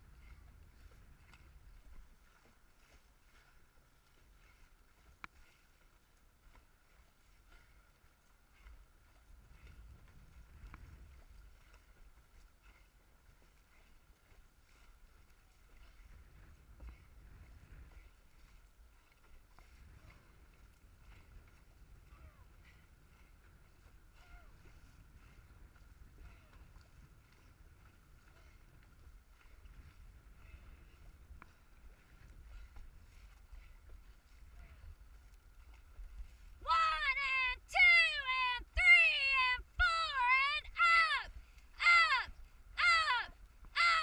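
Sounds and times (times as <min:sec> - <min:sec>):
wind and water rushing: 0:00.0 - 0:44.0
paddle splashes and knocks: 0:00.2 - 0:36.5.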